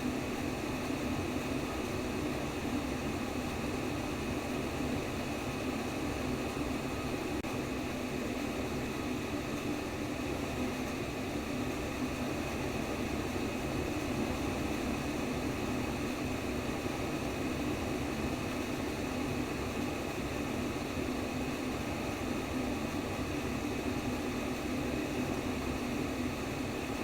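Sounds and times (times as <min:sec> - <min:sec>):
steady white noise: 0:00.0 - 0:27.0.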